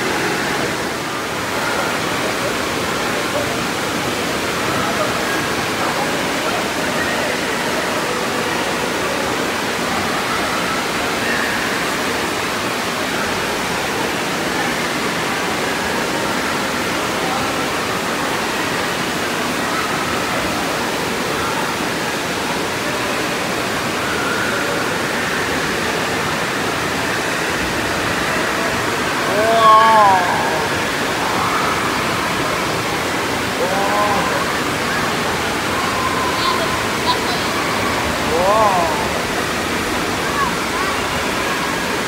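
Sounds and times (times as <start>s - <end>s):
water rushing down a slide: 0.0s - 42.0s.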